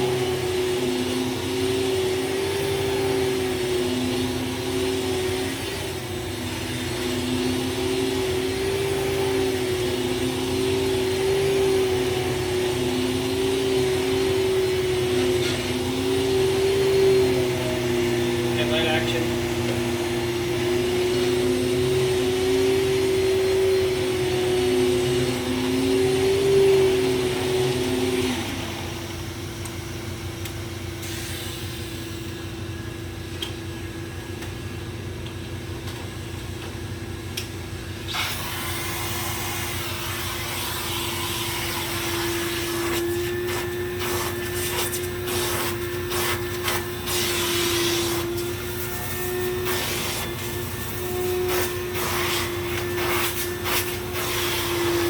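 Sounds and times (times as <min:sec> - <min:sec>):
vacuum motor whine: 0:00.0 - 0:55.0.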